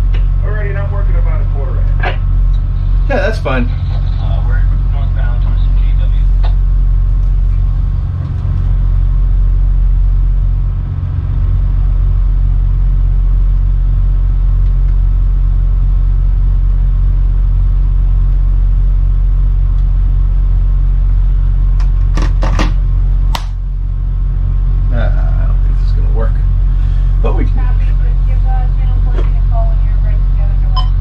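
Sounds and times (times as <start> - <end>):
diesel engines rumbling: 0.0 - 31.0.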